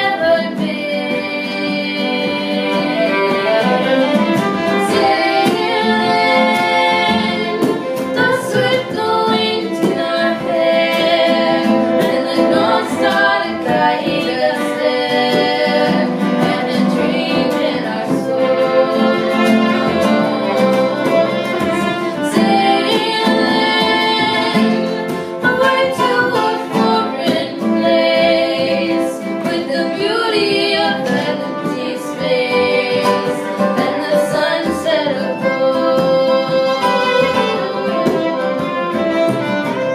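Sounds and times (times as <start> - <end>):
female voices singing: 0.0 - 38.8
fiddle: 0.0 - 39.9
strummed guitar: 0.0 - 39.9.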